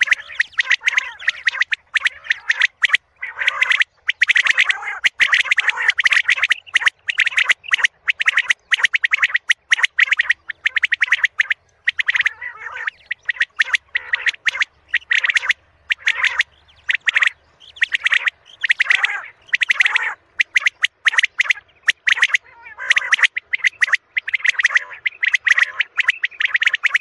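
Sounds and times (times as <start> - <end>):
quail calling: 0.0 - 27.0.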